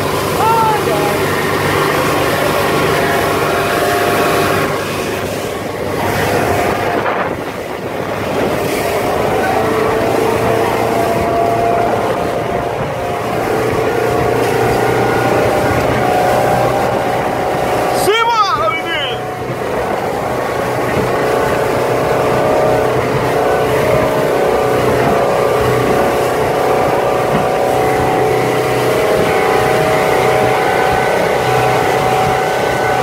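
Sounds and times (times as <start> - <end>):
motorboat engine running: 0.0 - 33.0
wind buffeting microphone: 0.0 - 33.0.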